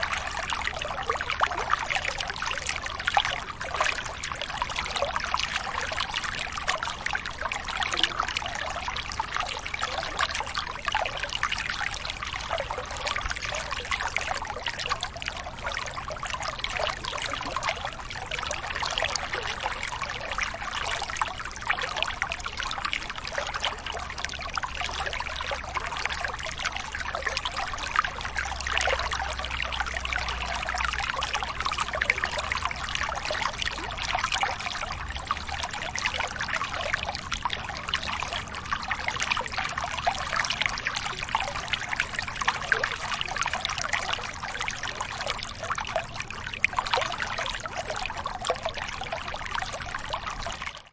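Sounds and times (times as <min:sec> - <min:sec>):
running water trickling: 0:00.0 - 0:50.9.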